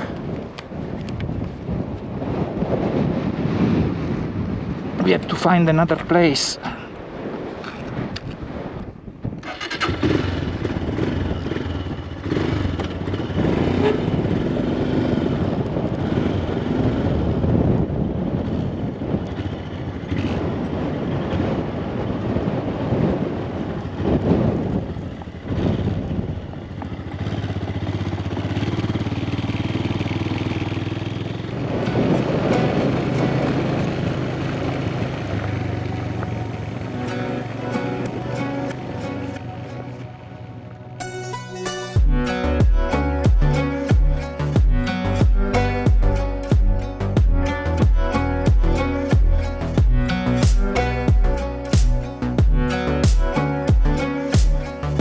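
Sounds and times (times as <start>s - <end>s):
motorcycle engine: 9.4s - 21.8s, 23.3s - 55.0s.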